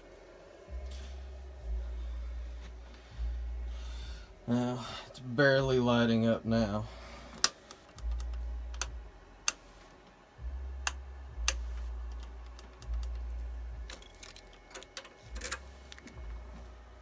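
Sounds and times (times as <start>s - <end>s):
low rumble: 0.0s - 7.3s, 8.0s - 9.5s, 10.3s - 14.3s, 15.2s - 17.0s.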